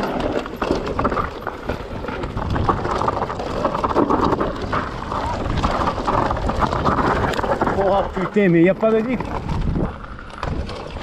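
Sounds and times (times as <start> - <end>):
bike clattering over rocks: 0.0 - 11.0
wind buffeting microphone: 1.2 - 11.0.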